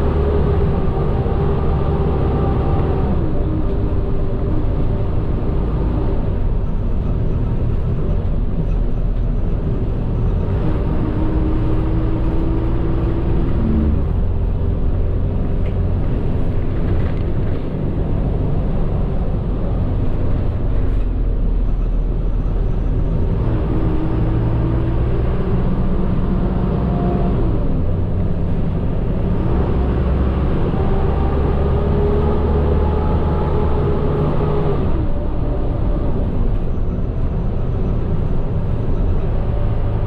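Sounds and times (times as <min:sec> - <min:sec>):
bus engine and road noise: 0:00.0 - 0:40.0
engine whine: 0:00.0 - 0:40.0.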